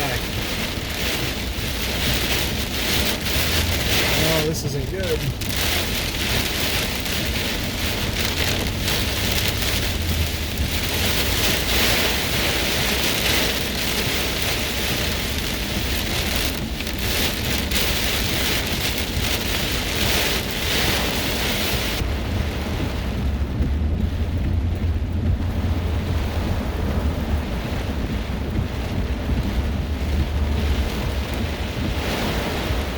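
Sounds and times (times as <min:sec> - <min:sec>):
low thunder rumble: 0:00.0 - 0:32.9
torrential rain pouring: 0:00.0 - 0:32.9.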